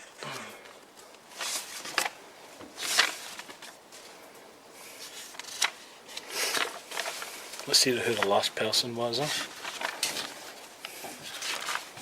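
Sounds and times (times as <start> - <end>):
paper pages rustling: 1.0 - 4.2, 4.9 - 12.0.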